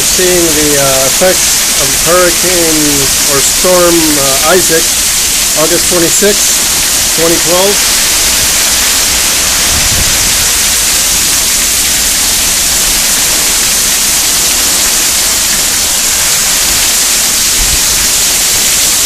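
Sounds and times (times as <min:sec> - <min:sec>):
heavy rain on pool and pavement: 0:00.0 - 0:19.0.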